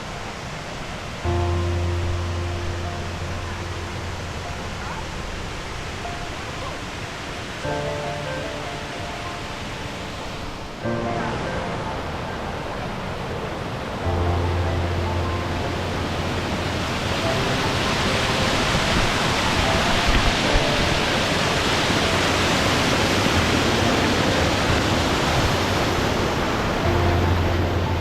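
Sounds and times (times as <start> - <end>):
background music: 0.0 - 28.0
waterfall rushing: 0.0 - 28.0.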